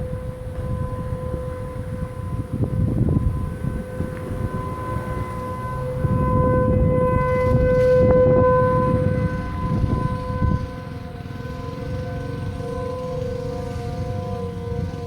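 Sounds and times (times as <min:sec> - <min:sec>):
tornado siren alert tone: 0:00.0 - 0:15.0.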